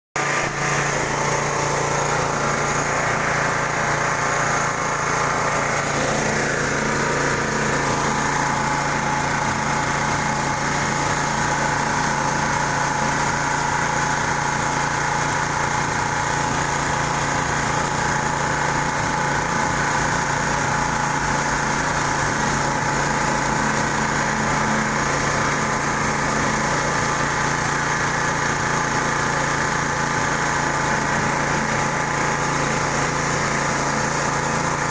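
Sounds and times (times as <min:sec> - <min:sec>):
pellet mill mechanical hum and whine: 0:00.2 - 0:34.9.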